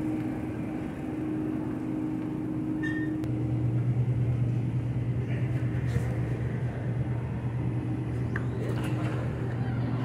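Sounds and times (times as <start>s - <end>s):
refrigerator electrical hum: 0.0s - 10.0s.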